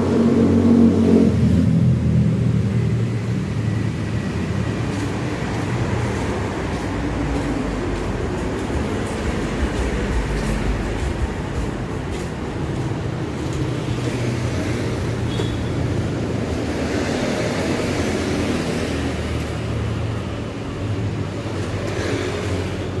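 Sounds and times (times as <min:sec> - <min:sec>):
road noise: 0:00.0 - 0:23.0
vehicle engines running: 0:00.0 - 0:23.0.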